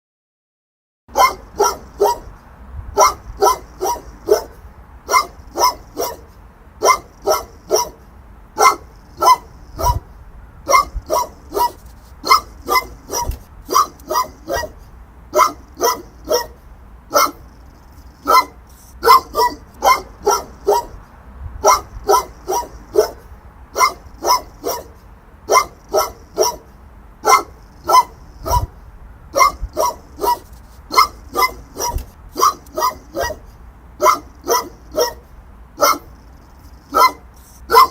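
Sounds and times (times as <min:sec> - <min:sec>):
big dog barking: 0:01.1 - 0:37.9.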